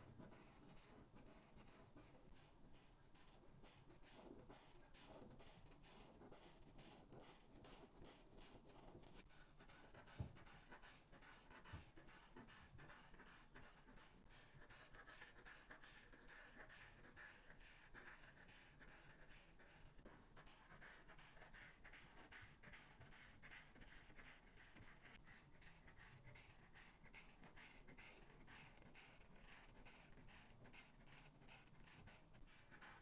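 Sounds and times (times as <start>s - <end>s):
marker scratching over paper: 0.0s - 33.0s.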